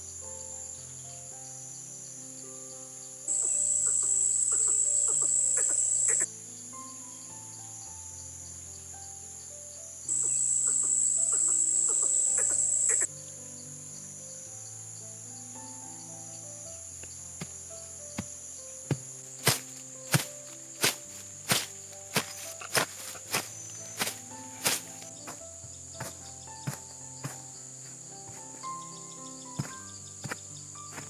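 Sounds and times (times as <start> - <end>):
faint insect buzz: 0.0 - 31.0
insect trilling: 0.0 - 31.0
soft slow melody: 0.0 - 31.0.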